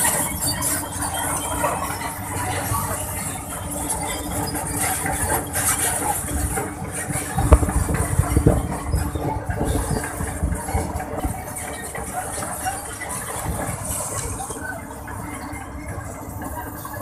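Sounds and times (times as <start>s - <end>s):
diesel engine running: 0.0s - 17.0s
steel tracks clanking: 0.0s - 17.0s.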